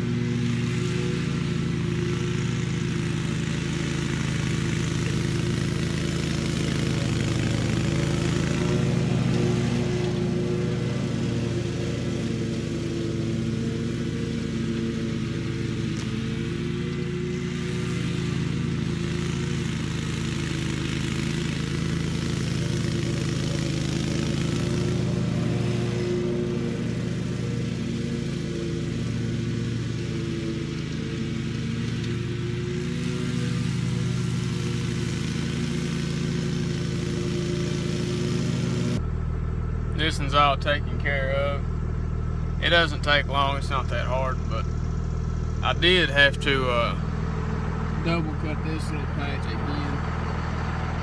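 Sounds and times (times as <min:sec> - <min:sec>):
lawn mower cutting grass: 0:00.0 - 0:51.0.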